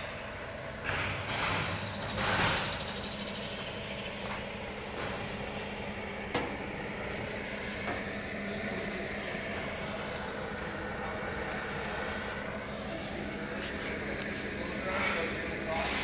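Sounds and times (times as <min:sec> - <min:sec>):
mechanical drone: 0:00.0 - 0:16.0.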